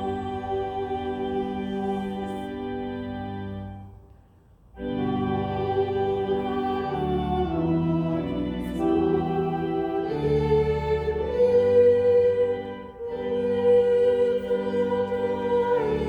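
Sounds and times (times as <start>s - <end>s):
organ playing held chords: 0.0s - 4.1s, 4.7s - 16.0s.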